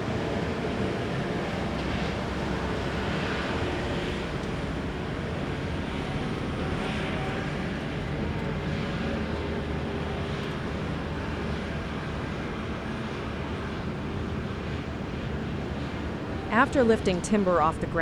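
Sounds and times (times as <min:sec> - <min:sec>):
heavy machinery engine drone: 0:00.0 - 0:18.0.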